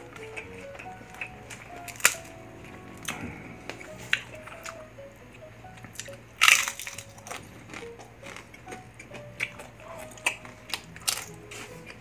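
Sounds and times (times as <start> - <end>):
chewing with small clicks: 0.0 - 4.8, 5.8 - 12.0
faint background music: 0.0 - 12.0.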